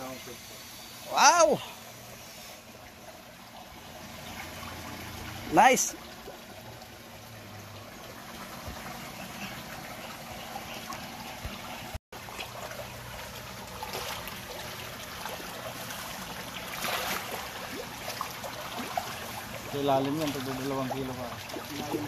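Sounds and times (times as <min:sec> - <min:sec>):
water trickling in a tank: 0:00.0 - 0:22.0
fish splashing: 0:00.5 - 0:22.0.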